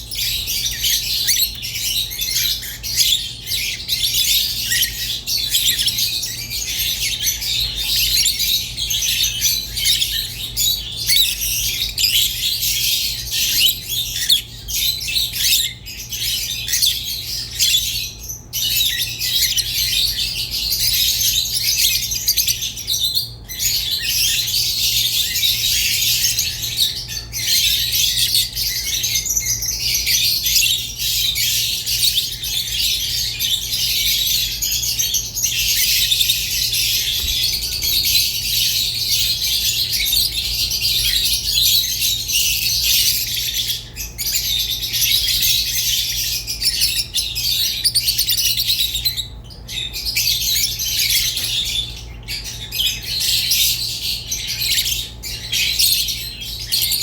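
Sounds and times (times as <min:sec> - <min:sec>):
lovebirds chattering and squawking: 0:00.0 - 0:57.0.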